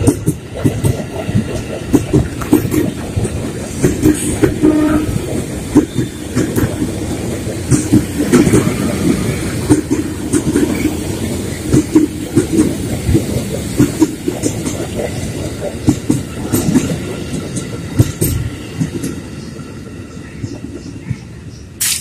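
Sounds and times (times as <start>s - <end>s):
wheels clacking over rail joints: 0.0s - 19.2s
train rumble: 0.0s - 22.0s.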